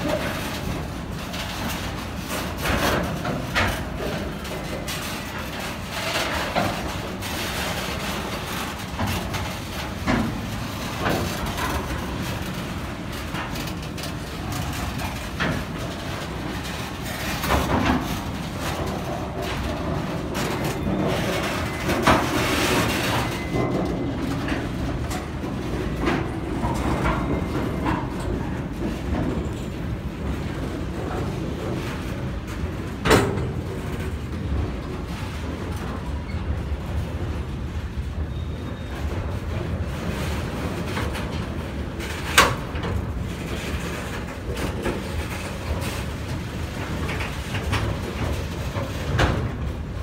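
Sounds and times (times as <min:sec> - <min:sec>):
steel wheels rumbling on rails: 0:00.0 - 0:50.0
wheels and couplings clanking: 0:00.0 - 0:50.0.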